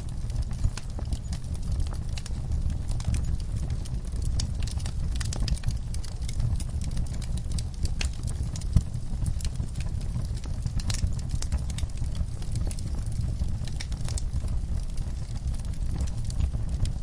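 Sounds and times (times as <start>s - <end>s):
flames rumbling: 0.0s - 17.0s
wood fire crackling and popping: 0.0s - 17.0s.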